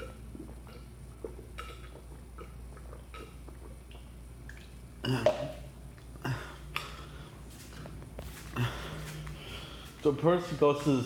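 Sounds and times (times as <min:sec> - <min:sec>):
person gulping a drink: 0:00.0 - 0:10.0.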